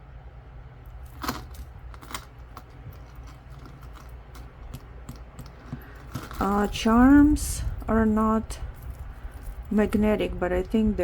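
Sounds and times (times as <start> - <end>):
bracelet charms jingling: 1.0 - 11.0.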